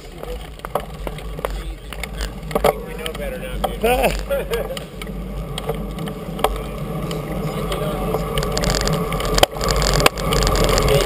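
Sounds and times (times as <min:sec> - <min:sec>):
bicycle rolling noise: 0:00.0 - 0:11.0
rushing wind: 0:00.0 - 0:11.0.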